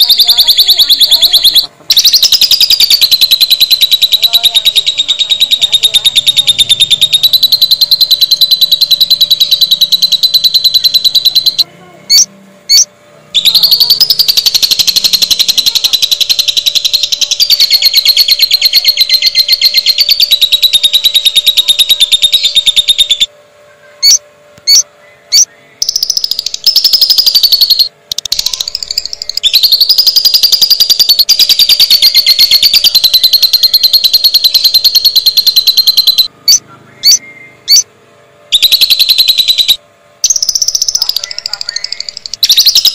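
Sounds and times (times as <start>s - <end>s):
lovebird rapid chattering trill: 0.0s - 23.3s, 24.0s - 37.9s, 38.5s - 42.9s.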